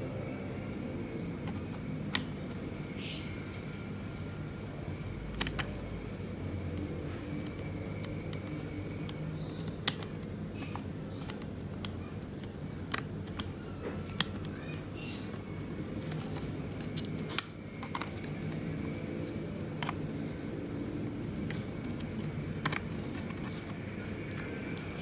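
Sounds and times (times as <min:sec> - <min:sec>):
steady low hum: 0:00.0 - 0:25.0
plastic parts clicking: 0:01.3 - 0:04.2, 0:04.9 - 0:25.0.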